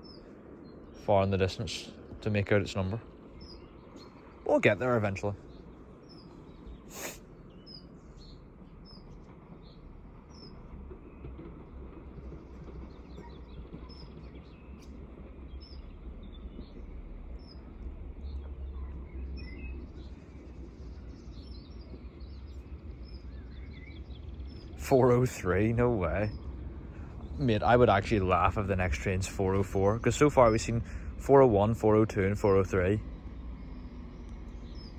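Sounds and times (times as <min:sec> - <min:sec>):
steady low rumble: 0:00.0 - 0:13.2, 0:13.8 - 0:34.9
small birds chirping: 0:00.0 - 0:34.9.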